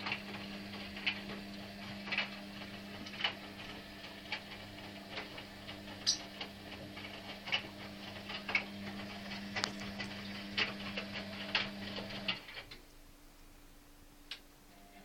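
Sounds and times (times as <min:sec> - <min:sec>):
washing machine motor hum: 0:00.0 - 0:13.3.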